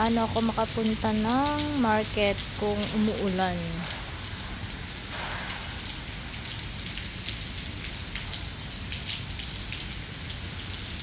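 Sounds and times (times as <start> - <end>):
heavy rain on wet pavement: 0.0 - 11.0.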